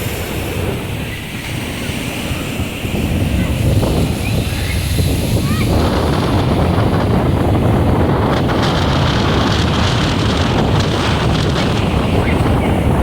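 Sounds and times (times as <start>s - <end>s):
sea surf breaking on shore: 0.0s - 13.0s
strong wind buffeting microphone: 0.0s - 13.0s.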